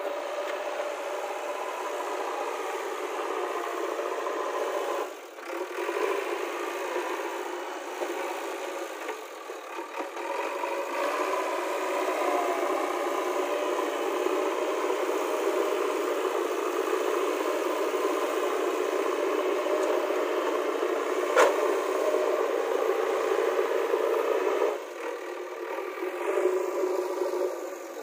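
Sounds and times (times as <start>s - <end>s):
diesel engine under load: 0.0s - 28.0s
loader bucket in loose soil: 0.0s - 28.0s.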